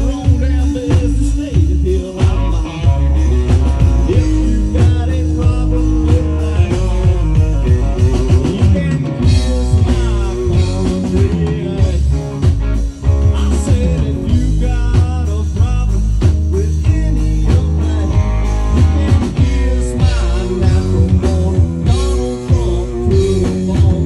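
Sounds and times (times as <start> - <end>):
drum kit: 0.0 - 24.0
electric guitars: 0.0 - 24.0.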